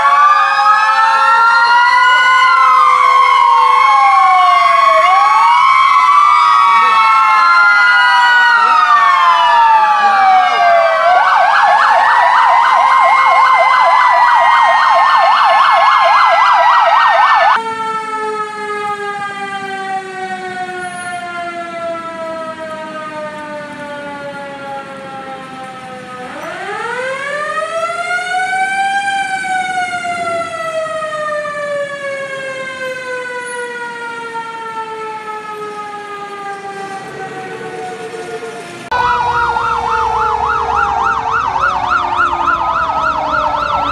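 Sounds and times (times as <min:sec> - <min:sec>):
ambulance sirens: 0:00.0 - 0:43.9.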